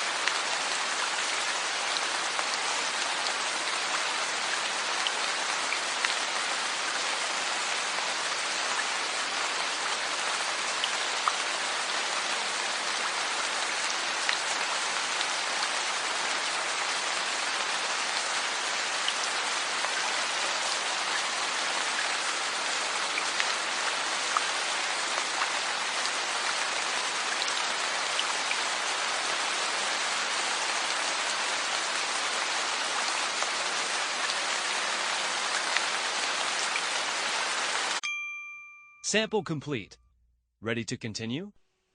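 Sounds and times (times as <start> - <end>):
steady rain patter: 0.0 - 38.0.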